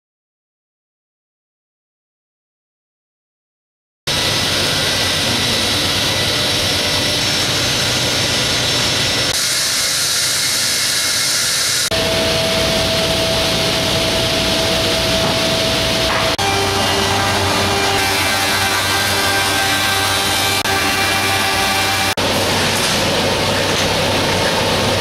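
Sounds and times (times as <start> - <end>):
steady machine whine: 4.1 - 25.0
woodworking machines running: 4.1 - 25.0.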